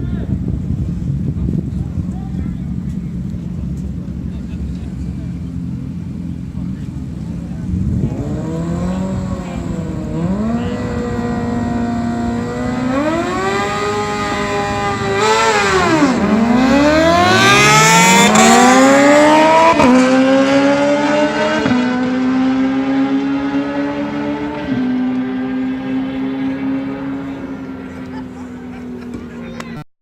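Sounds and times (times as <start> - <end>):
motorcycle engines revving: 0.0 - 29.8.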